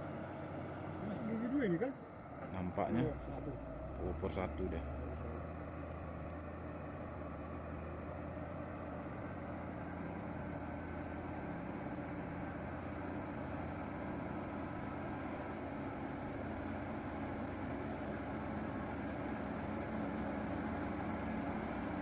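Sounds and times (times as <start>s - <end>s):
truck diesel engine climbing: 0.0s - 22.0s.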